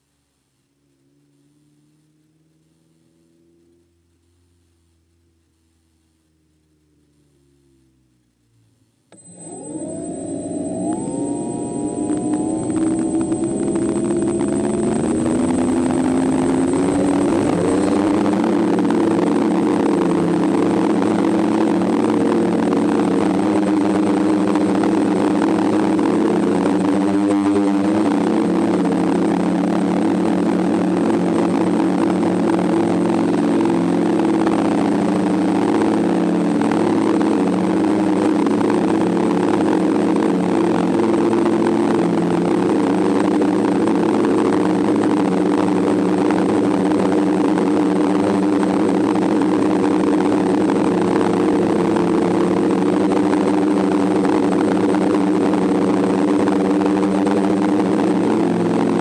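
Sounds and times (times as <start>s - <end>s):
drone propellers droning: 9.1s - 59.0s.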